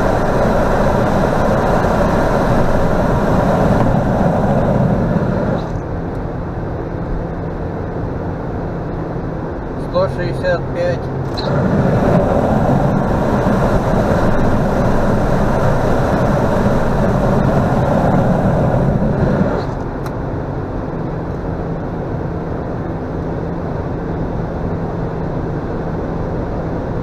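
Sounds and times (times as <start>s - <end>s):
low hum: 0.0s - 27.0s
wind rushing in car cabin: 0.0s - 27.0s.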